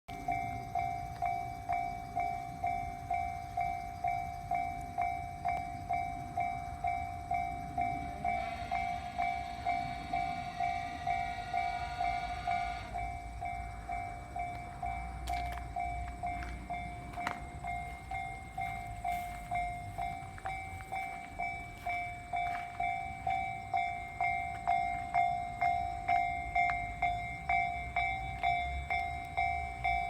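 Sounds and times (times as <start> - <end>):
electric train whine: 0.1 - 30.0
level-crossing warning bell: 0.1 - 30.0
rail noise: 0.1 - 30.0.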